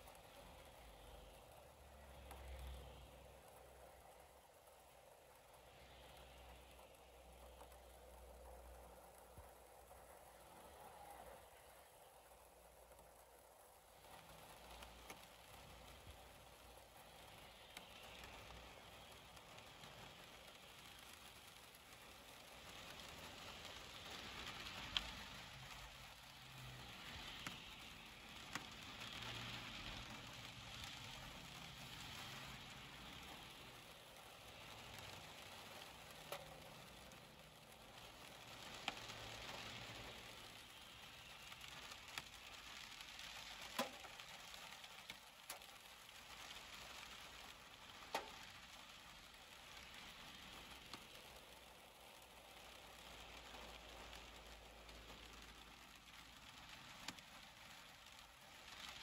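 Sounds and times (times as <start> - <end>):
faint steady rain: 0.0 - 59.0
tyres hissing on wet road: 0.0 - 59.0.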